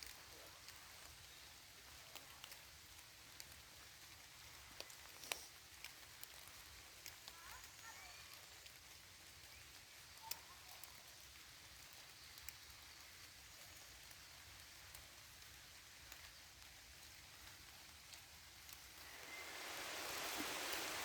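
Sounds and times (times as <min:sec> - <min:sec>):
faint rain in forest: 0:00.0 - 0:21.0.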